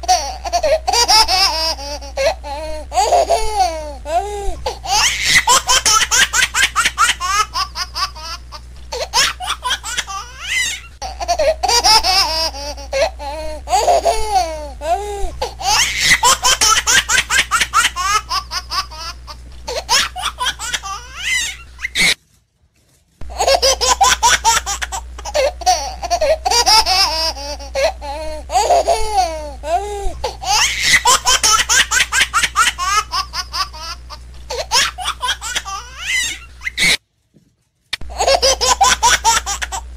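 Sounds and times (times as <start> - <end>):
young child laughing: 0.0 - 22.2, 23.3 - 37.0, 38.1 - 39.9.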